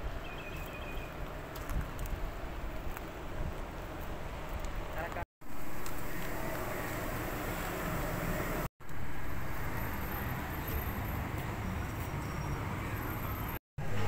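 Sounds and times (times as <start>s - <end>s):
outdoor background hiss and rumble: 0.0s - 11.6s.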